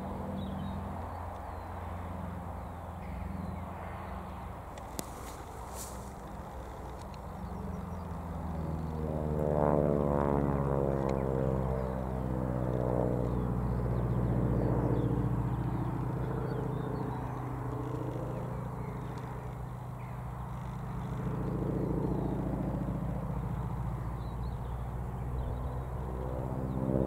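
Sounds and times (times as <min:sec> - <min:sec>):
propeller plane radial engine: 0:00.0 - 0:27.0.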